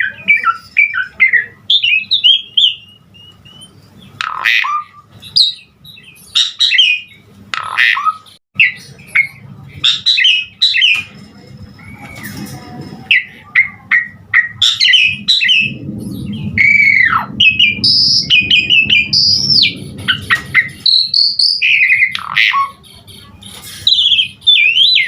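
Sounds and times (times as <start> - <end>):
starling singing chattering whistles: 0.0 - 11.1, 13.1 - 25.0.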